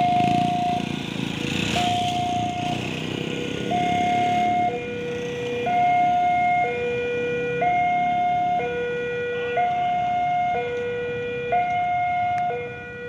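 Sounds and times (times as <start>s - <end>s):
two-tone level crossing alarm: 0.0s - 13.0s.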